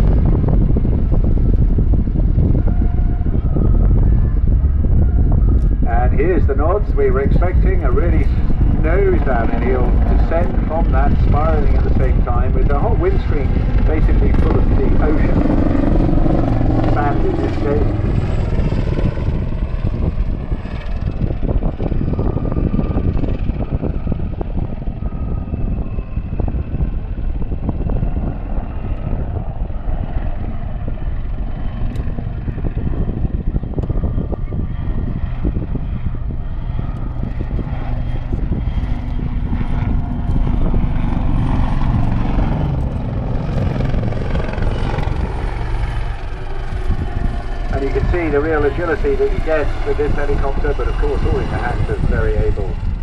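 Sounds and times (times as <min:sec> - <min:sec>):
helicopter rotor chopping: 0:00.0 - 0:53.0.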